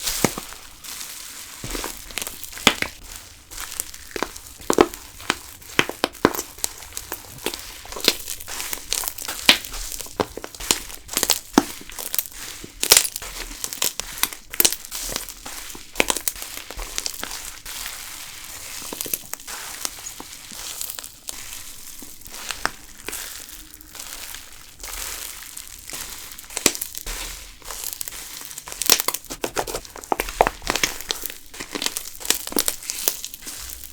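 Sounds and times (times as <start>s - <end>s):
slime crackling and snapping: 0.0s - 33.9s.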